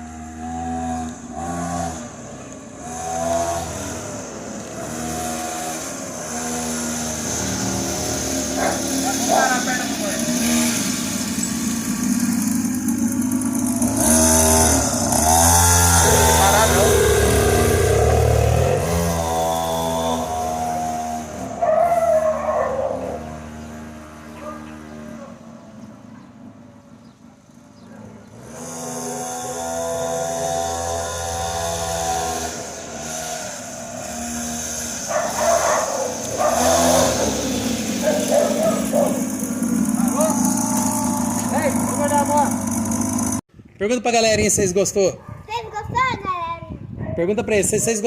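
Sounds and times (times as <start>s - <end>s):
dirt bike engine running: 0.0s - 43.4s.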